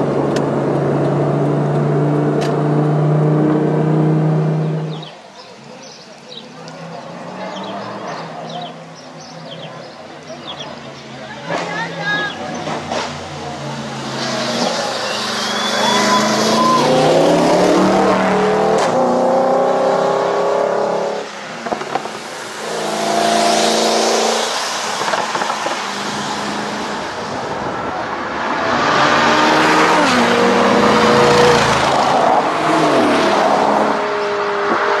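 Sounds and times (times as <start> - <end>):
car engines accelerating: 0.0 - 35.0
wind and road noise: 0.0 - 35.0.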